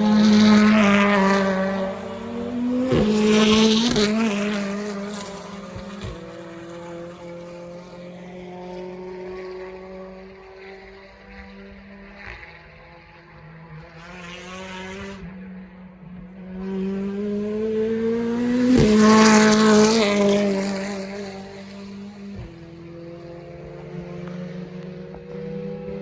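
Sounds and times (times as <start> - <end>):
race car passing at speed: 0.0 - 26.0.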